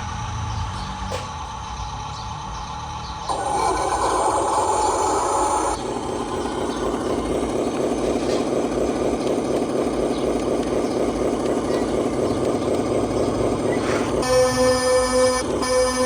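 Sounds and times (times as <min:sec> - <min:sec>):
radio-controlled truck drone: 0:00.0 - 0:16.0.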